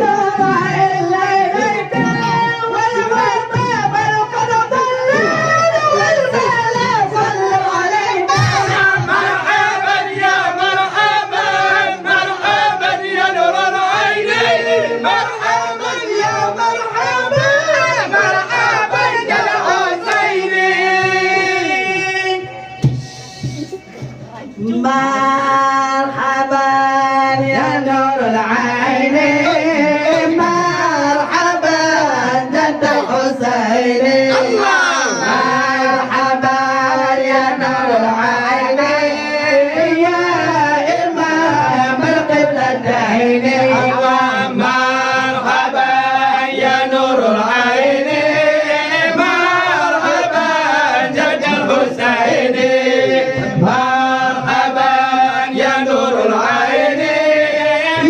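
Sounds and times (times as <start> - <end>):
men chanting into microphones: 0.0 - 23.7, 24.6 - 58.0.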